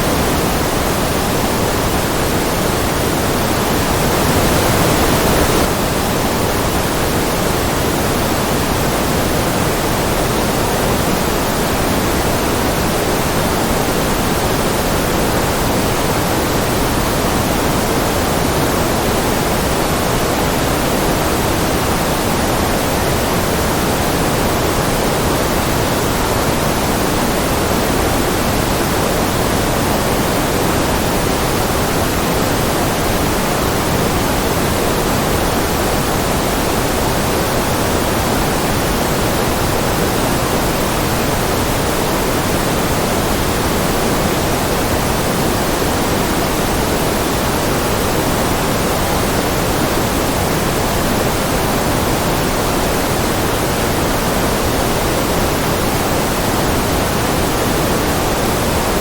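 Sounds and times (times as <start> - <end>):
deep white noise hiss: 0.0 - 59.0.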